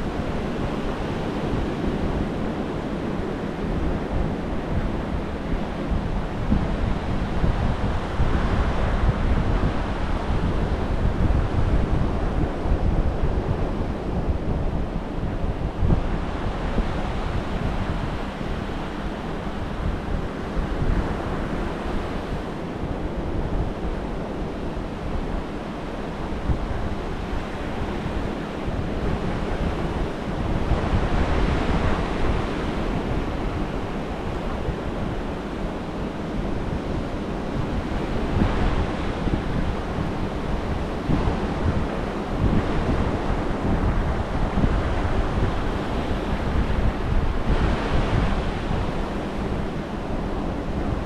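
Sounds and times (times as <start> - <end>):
surf washing up a beach: 0.0 - 51.0
wind buffeting microphone: 0.0 - 51.0.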